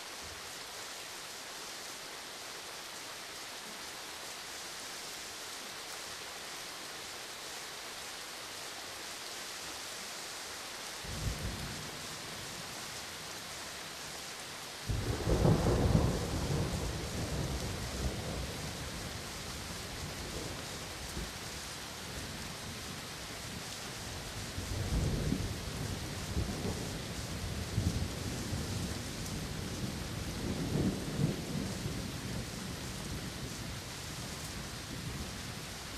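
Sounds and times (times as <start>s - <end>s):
steady rain: 0.0s - 35.9s.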